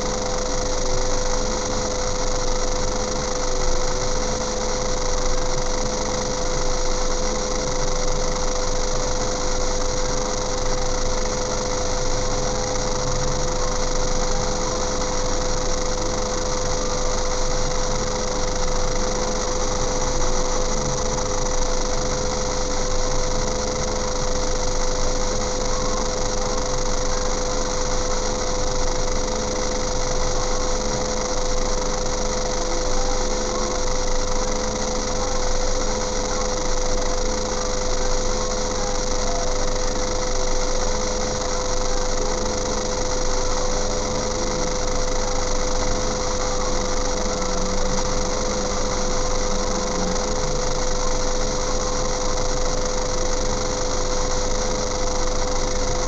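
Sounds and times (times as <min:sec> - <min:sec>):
car engine idling: 0:00.0 - 0:56.0
high-pitched hum: 0:00.0 - 0:56.0.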